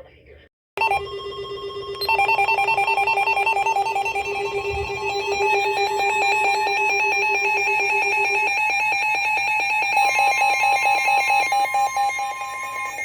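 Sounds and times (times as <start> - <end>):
steady beeping tones: 0.8 - 13.0
two-pitch warble alarm: 0.8 - 13.0.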